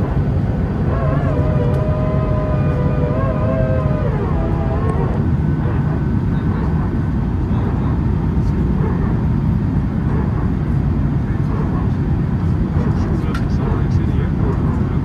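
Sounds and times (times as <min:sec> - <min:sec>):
airplane cabin rumble: 0:00.0 - 0:15.0
engine whine: 0:00.0 - 0:15.0.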